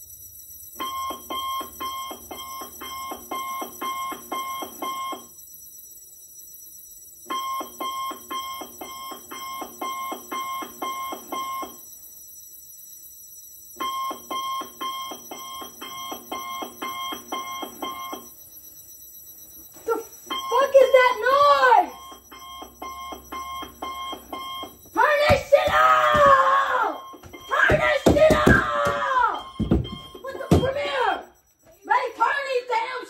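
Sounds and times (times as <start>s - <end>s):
alarm clock beeping: 0.0s - 33.0s.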